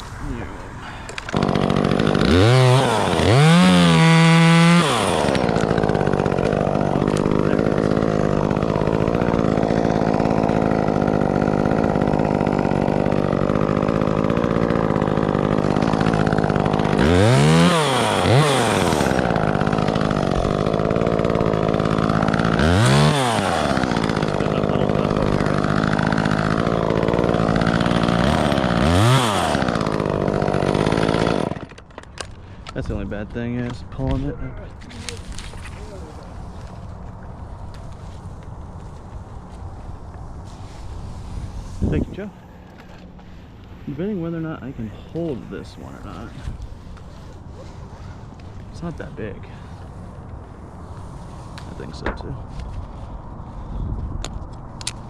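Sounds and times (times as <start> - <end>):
chainsaw cutting wood: 1.0 - 33.8, 34.8 - 52.9.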